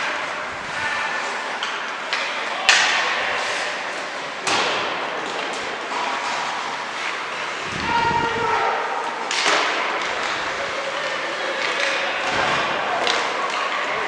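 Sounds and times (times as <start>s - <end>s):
steady noisy background: 0.0s - 14.0s.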